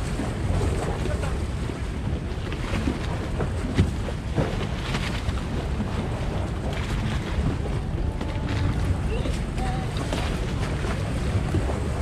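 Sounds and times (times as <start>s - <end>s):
motorboat rumble: 0.0s - 12.0s
rushing water: 0.0s - 12.0s
wind buffeting microphone: 0.0s - 12.0s.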